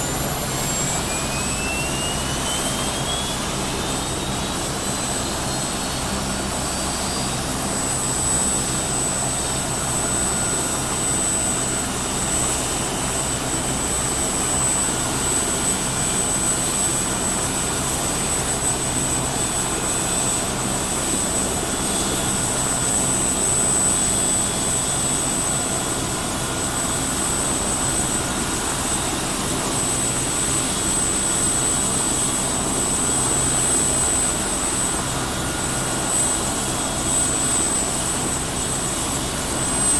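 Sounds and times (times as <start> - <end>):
helicopter engine and rotor: 0.0 - 39.9
high-pitched whine: 0.0 - 39.9.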